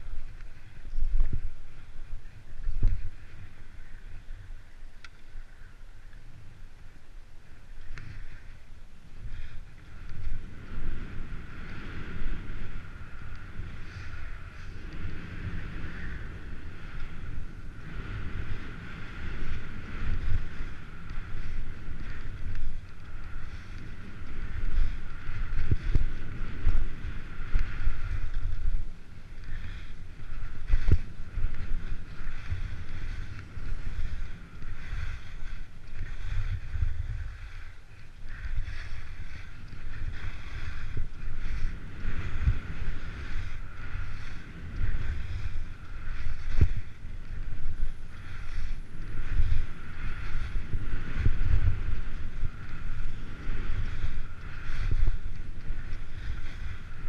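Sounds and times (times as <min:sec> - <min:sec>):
wind buffeting microphone: 0:00.0 - 0:57.0
skis hissing on snow: 0:10.7 - 0:57.0.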